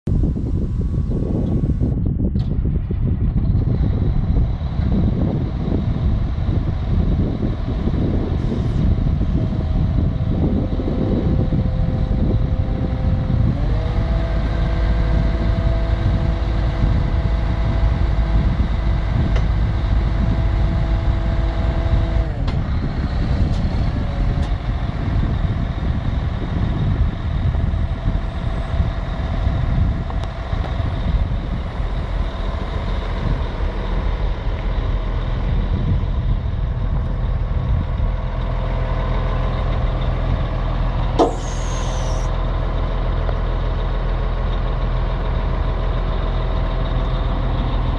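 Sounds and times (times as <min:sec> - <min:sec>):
wheel loader diesel engine revving: 0:03.6 - 0:36.0, 0:37.7 - 0:47.9.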